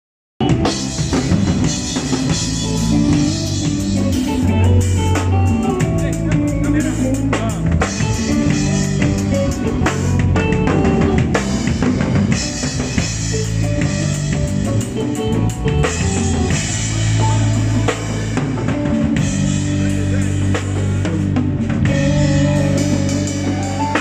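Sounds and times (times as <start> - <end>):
drum kit hits: 0.4 - 24.0
live band playing: 0.4 - 24.0.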